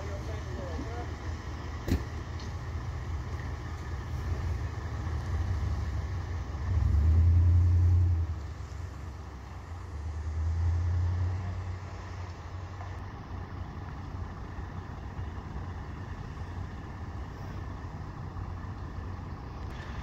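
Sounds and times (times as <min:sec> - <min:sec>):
vehicle engines idling: 0:00.0 - 0:20.0.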